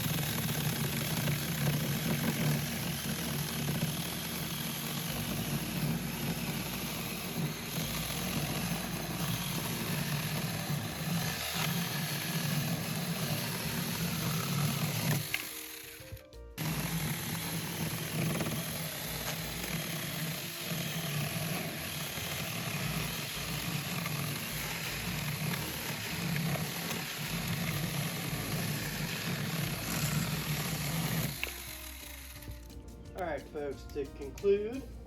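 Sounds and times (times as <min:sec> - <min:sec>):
small chainsaw cutting wood: 0:00.0 - 0:33.3.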